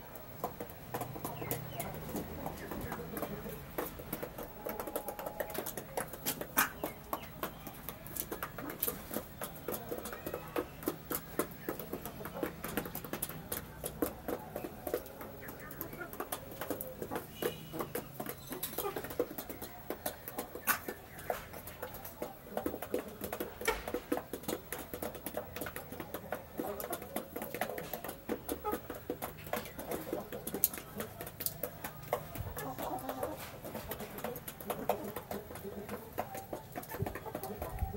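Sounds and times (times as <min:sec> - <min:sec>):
chickens pecking feed: 0:00.0 - 0:37.9.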